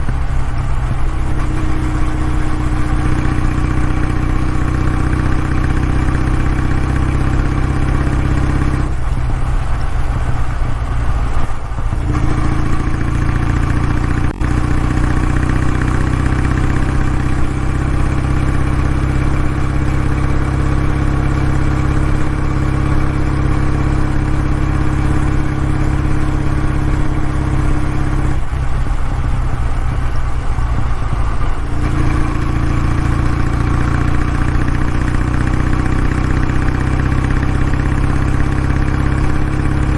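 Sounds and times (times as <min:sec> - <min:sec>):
twin engine running: 0:00.0 - 0:39.9.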